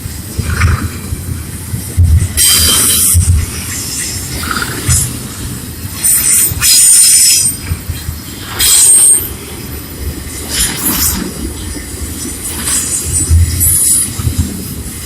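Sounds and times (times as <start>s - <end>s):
train rumbling past: 0.0s - 15.0s
wheels squealing on rails: 2.2s - 15.0s.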